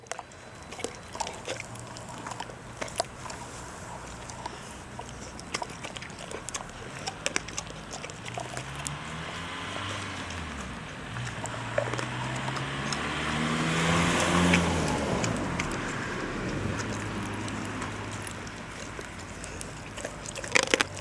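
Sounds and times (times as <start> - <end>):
dog chewing bones: 0.0 - 21.0
low engine hum: 0.0 - 21.0.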